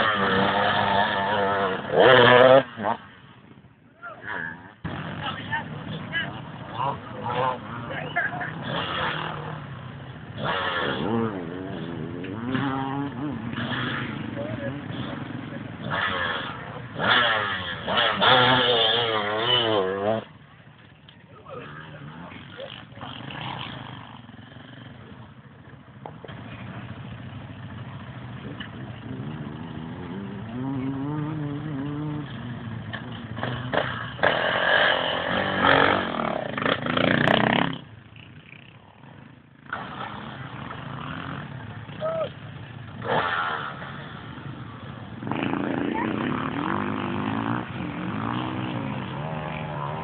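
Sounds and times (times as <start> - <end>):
motorcycles revving: 0.0 - 50.0.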